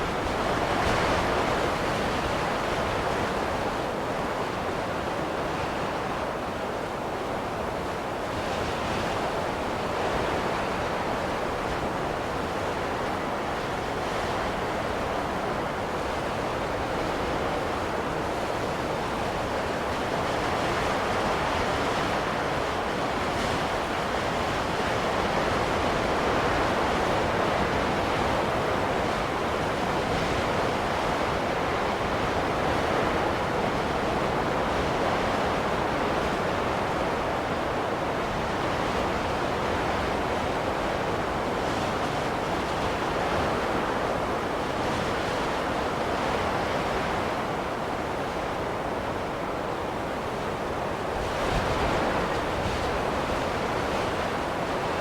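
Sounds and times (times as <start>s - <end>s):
rushing snowstorm wind: 0.0s - 55.0s.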